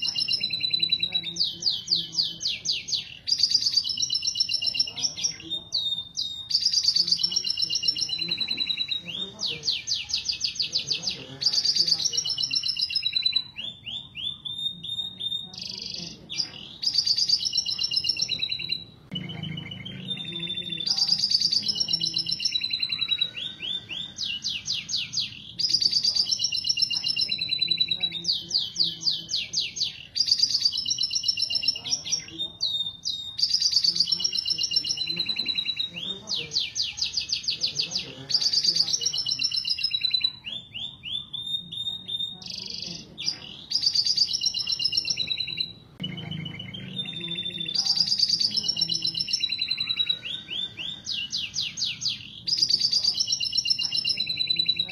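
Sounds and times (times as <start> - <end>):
canaries singing: 0.0 - 54.9.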